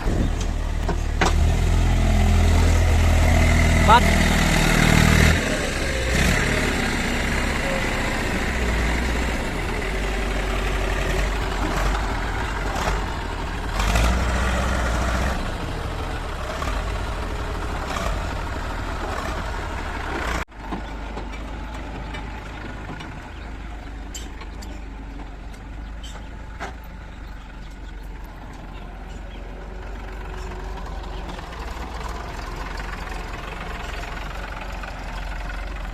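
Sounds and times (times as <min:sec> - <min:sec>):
diesel engines running: 0:00.0 - 0:35.9.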